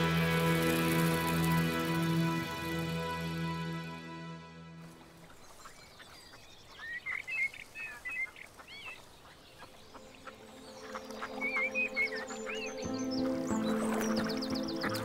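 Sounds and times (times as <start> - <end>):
soft background music: 0.0 - 6.0, 8.7 - 15.0
birds chirping: 0.0 - 15.0.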